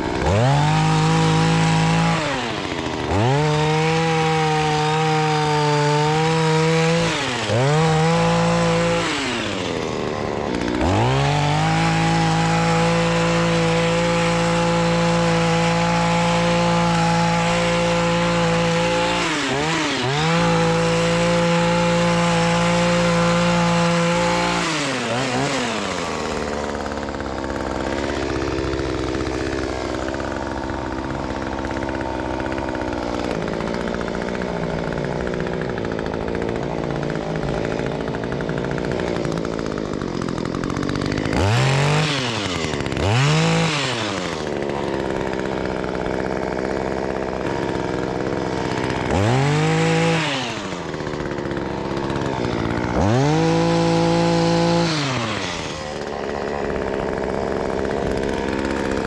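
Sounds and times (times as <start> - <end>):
chainsaw running and revving: 0.0 - 59.0.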